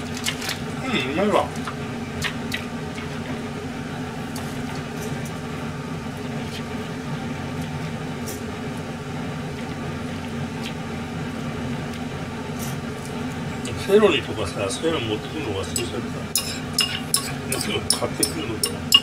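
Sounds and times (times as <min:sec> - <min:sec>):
mechanical hum with low drone: 0:00.0 - 0:19.0.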